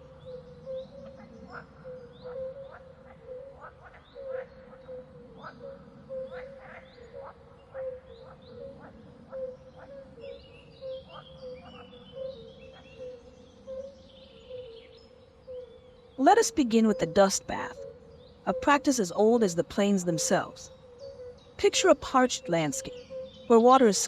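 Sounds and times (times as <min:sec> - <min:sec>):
birds twittering chirps: 0:00.0 - 0:24.0.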